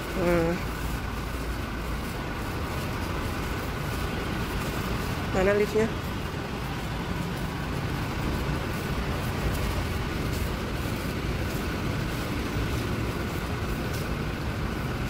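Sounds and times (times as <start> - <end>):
faint footsteps: 0.0 - 15.0
low rumbling background noise: 0.0 - 15.0.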